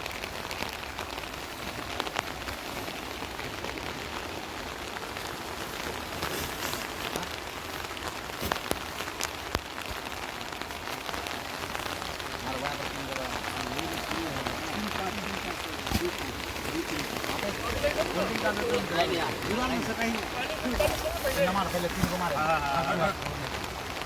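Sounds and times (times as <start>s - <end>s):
fast-flowing river rushing: 0.0s - 24.0s.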